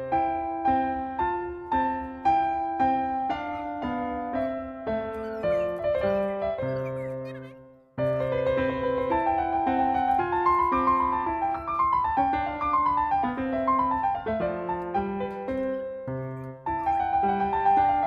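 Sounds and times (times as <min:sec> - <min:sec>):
solo piano music: 0:00.0 - 0:18.0.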